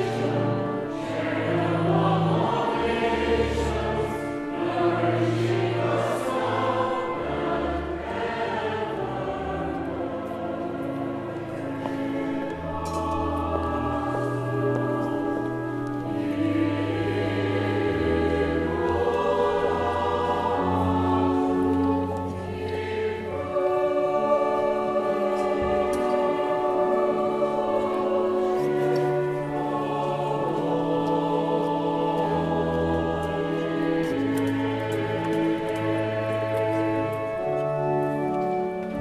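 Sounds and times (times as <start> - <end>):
choir singing a hymn: 0.0 - 39.0
pipe organ playing held chords: 0.0 - 39.0.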